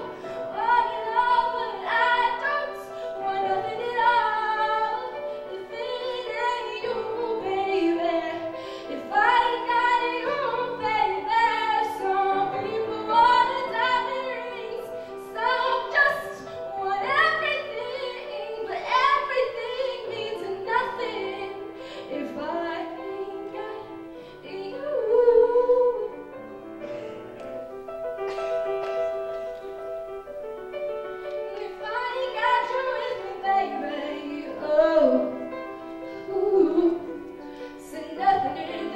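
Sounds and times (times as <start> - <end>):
woman singing a ballad: 0.0 - 26.1, 31.5 - 35.5, 36.2 - 38.9
grand piano chords: 0.0 - 38.9.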